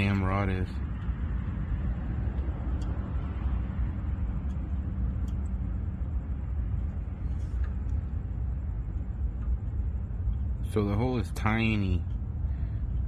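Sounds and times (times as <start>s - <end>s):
car engine idling: 0.0s - 13.0s
faint ticks: 0.0s - 13.0s.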